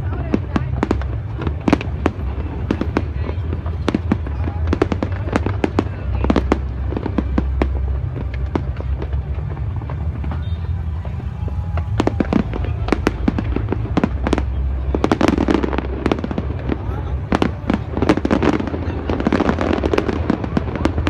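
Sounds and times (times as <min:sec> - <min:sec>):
fireworks cracks and bangs: 0:00.0 - 0:21.0
low rumble: 0:00.0 - 0:21.0.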